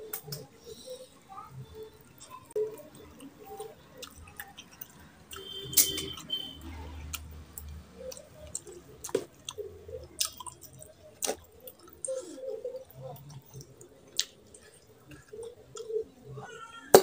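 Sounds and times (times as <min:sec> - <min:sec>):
wet chewing mouth sounds: 0:02.0 - 0:16.1.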